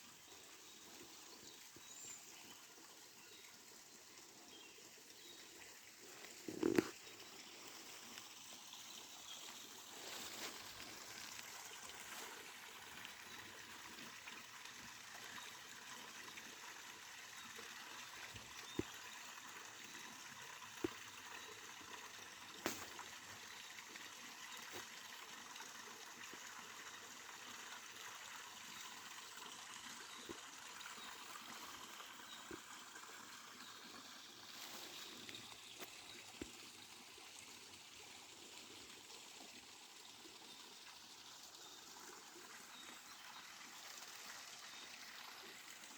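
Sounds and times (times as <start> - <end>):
stream flowing: 0.0 - 45.9.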